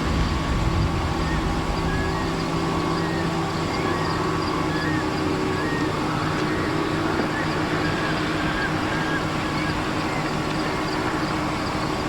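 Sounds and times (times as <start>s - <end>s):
diesel locomotive engine hum: 0.0s - 12.0s.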